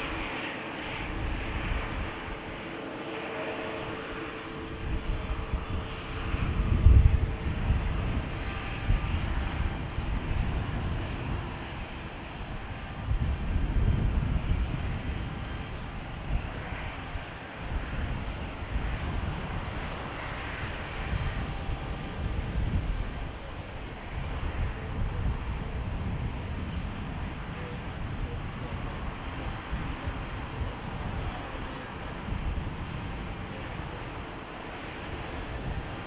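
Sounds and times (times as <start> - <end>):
distant jet engines: 0.0 - 36.0.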